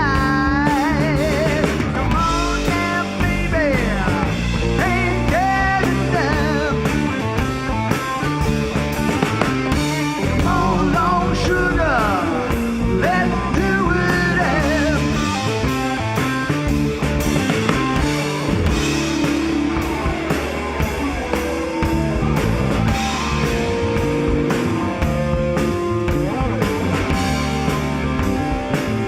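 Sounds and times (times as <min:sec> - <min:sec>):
bass guitar: 0:00.0 - 0:29.0
bending guitar lead line: 0:00.0 - 0:29.0
drum kit beat: 0:00.0 - 0:29.0
electric guitar: 0:00.0 - 0:29.0.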